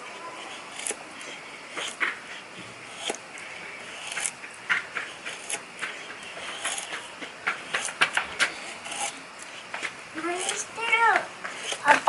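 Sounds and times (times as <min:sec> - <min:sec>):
knife scraping wood: 0:00.0 - 0:12.0.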